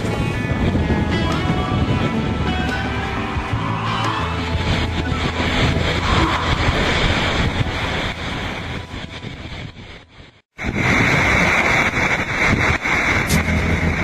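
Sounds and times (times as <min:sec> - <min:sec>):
rushing breaking water: 0:00.0 - 0:14.0
wind buffeting microphone: 0:00.0 - 0:14.0.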